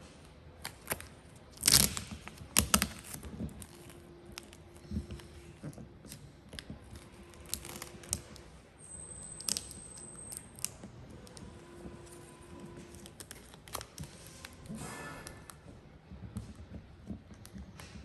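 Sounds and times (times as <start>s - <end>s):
vinyl film crinkling: 0.5s - 18.0s.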